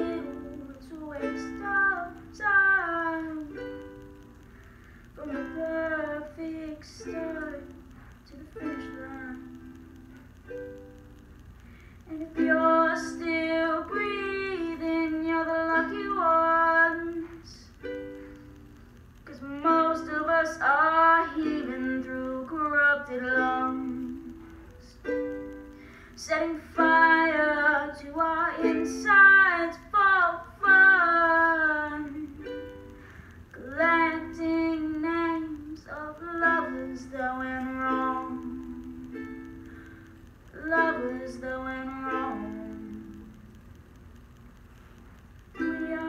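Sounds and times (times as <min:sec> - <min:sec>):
woman singing: 0:00.0 - 0:04.4, 0:05.1 - 0:10.2, 0:12.1 - 0:18.0, 0:19.2 - 0:25.2, 0:26.1 - 0:39.6, 0:40.5 - 0:43.4, 0:45.6 - 0:46.0
ukulele strumming: 0:00.0 - 0:43.8, 0:45.5 - 0:46.0.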